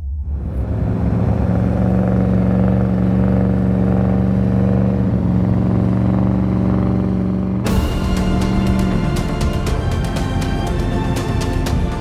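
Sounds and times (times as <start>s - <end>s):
engine droning under load: 0.0s - 12.0s.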